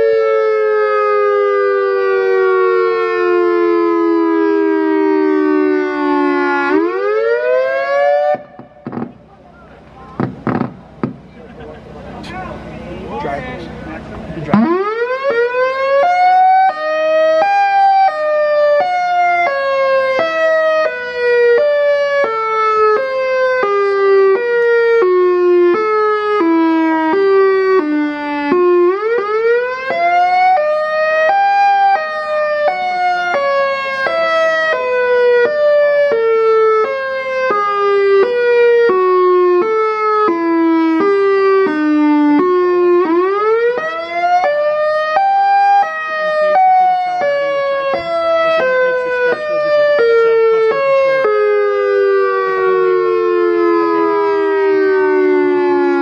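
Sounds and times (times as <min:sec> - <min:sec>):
electronic siren warning tone: 0:00.0 - 0:09.2, 0:14.4 - 0:56.0.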